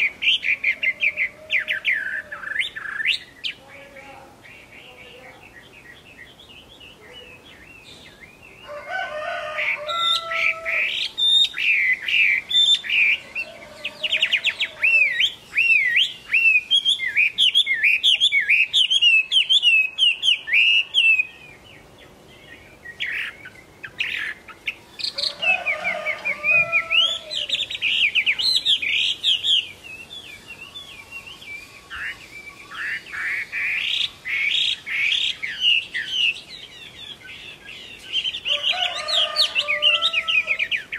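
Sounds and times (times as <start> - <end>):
bird singing whistled notes: 4.5 - 8.7, 9.9 - 40.9.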